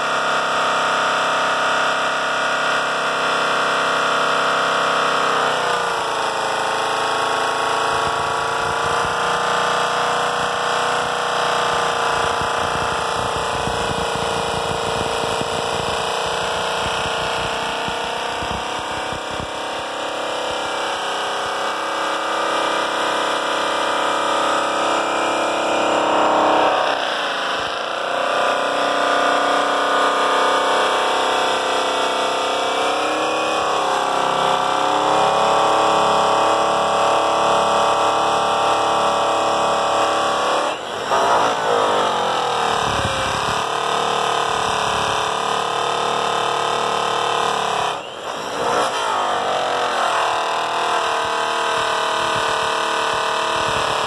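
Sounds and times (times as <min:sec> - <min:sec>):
electric buffer motor whine: 0:00.0 - 0:54.0.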